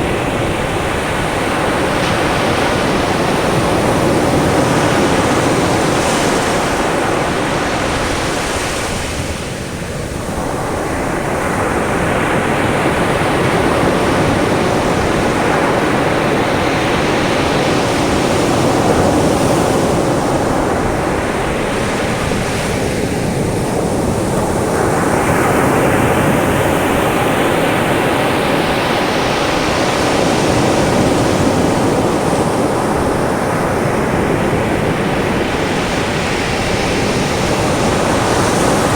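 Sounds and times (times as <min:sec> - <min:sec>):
waves breaking on beach: 0:00.0 - 0:38.9
wind on microphone: 0:00.0 - 0:38.9.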